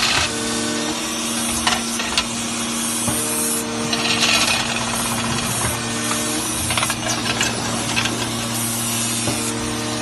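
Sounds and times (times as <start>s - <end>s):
riveting machine motor hum: 0.0s - 10.0s.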